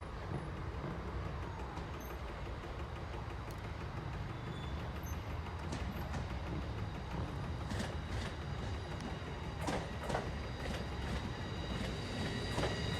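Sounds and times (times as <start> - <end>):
electric train low rumble: 0.0 - 12.9.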